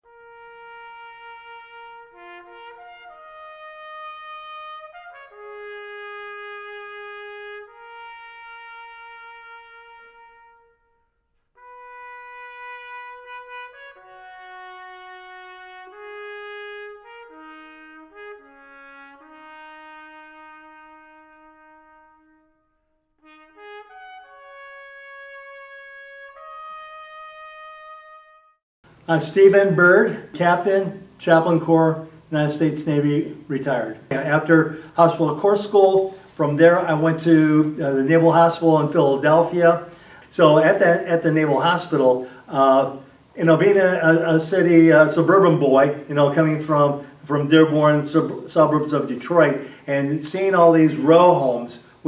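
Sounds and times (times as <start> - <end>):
slow brass music with trumpet: 0.0 - 29.0, 29.6 - 52.0.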